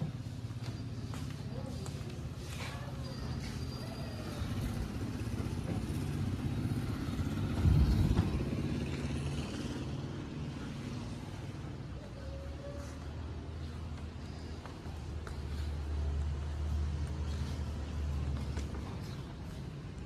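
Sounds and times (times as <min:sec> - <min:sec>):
motorcycle engines humming: 0:00.0 - 0:20.0.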